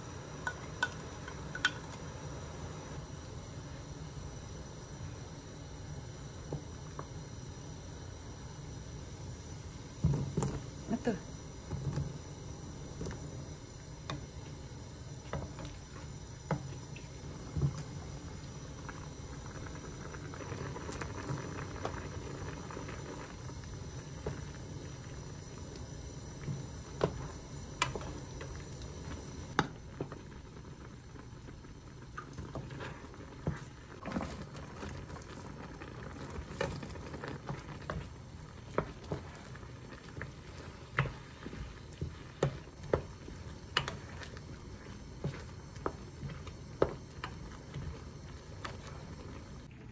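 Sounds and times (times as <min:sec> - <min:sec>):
broth bubbling in a pan: 0:00.0 - 0:49.9.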